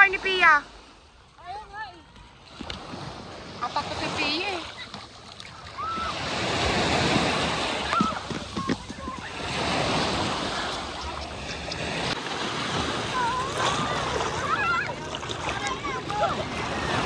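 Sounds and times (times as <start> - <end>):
ocean surf breaking: 0.0 - 5.0, 5.6 - 17.0.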